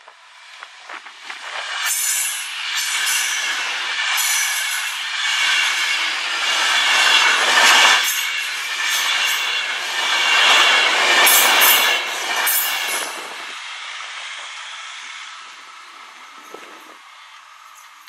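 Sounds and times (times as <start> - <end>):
electric train passing at speed: 0.0 - 18.0.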